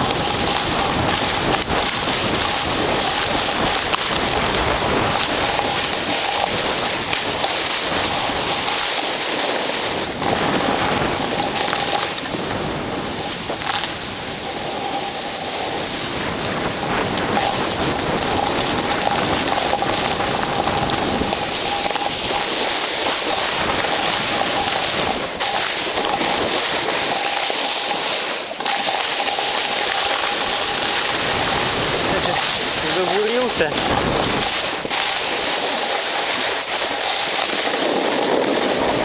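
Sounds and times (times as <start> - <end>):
skis sliding on packed snow: 0.0 - 39.0
wind buffeting microphone: 0.0 - 39.0.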